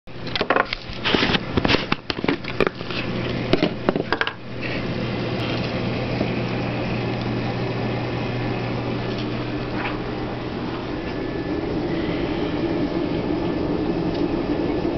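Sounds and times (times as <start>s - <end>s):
aquarium pumps humming: 0.1s - 14.9s.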